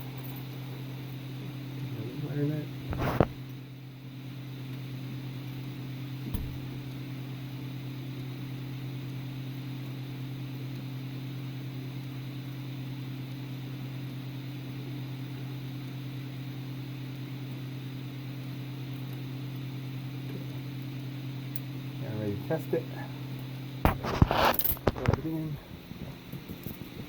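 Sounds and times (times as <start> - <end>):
low mechanical hum with hiss: 0.0 - 27.0.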